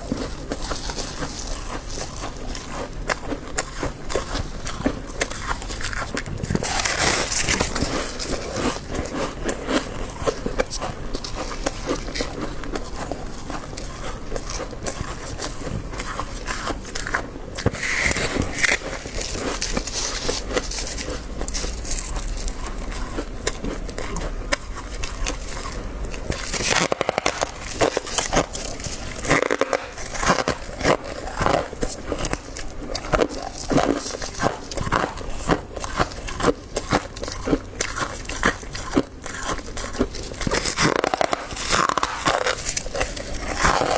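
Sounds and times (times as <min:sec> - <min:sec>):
frost crunching and crackling: 0:00.0 - 0:43.9.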